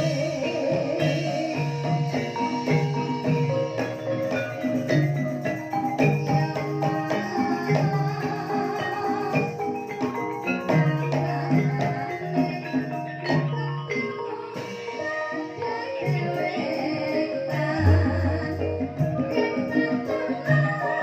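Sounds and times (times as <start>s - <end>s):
drum strokes: 0.0s - 21.0s
gamelan ensemble playing: 0.0s - 21.0s.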